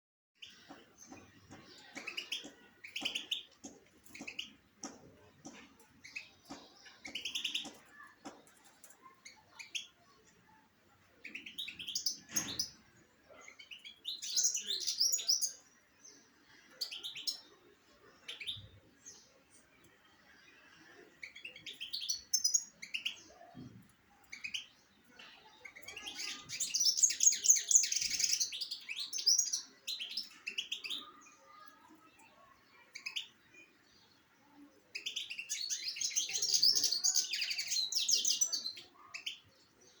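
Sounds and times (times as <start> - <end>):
small birds chirping: 0.4 - 40.0.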